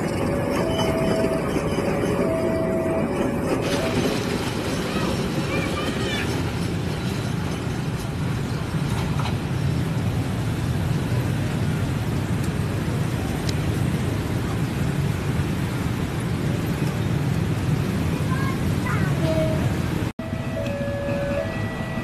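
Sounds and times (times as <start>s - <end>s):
diesel train passing: 0.0s - 22.0s
train wheels rumbling on rails: 0.0s - 22.0s.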